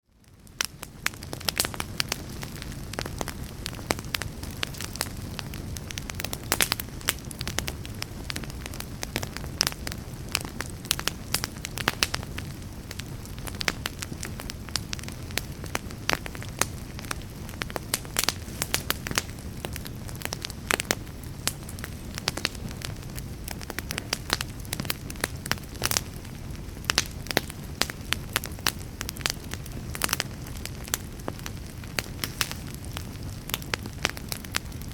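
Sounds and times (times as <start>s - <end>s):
fire crackling and popping: 0.0s - 34.9s
fire flames rushing: 0.2s - 34.9s.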